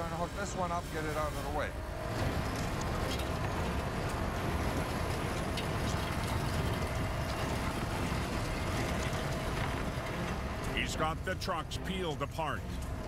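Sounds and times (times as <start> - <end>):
faint constant whine: 0.0 - 13.0
tow truck rumbling: 1.5 - 13.0.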